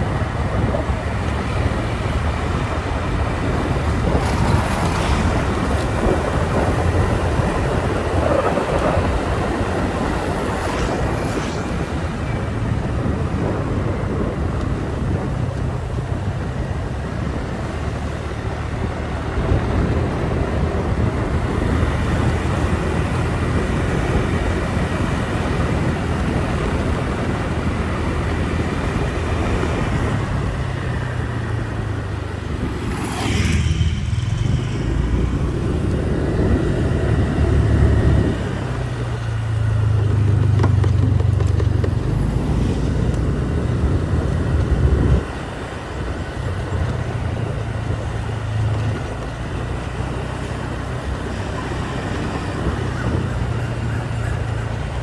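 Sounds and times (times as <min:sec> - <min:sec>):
motorbike engine: 0:00.0 - 0:55.0
road and wind noise: 0:00.0 - 0:55.0.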